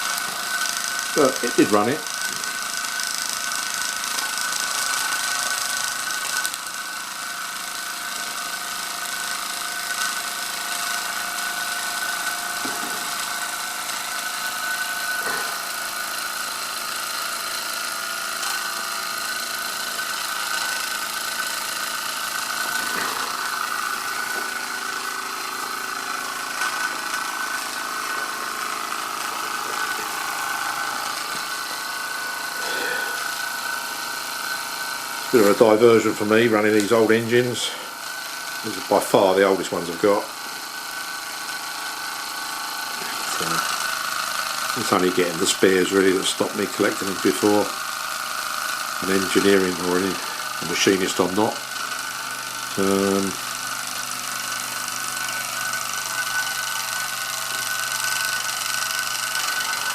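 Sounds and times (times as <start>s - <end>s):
toy steam engine whirring: 0.0s - 59.9s.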